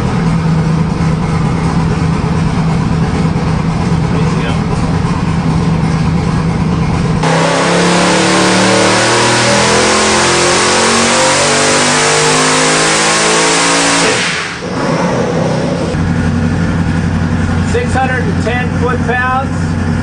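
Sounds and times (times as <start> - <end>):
engine idling and revving: 0.0 - 20.0.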